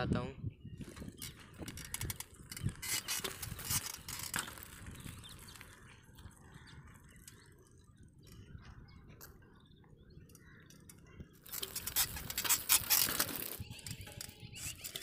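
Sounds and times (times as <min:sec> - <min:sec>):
mountain bike rattling on dirt: 0:00.8 - 0:15.0.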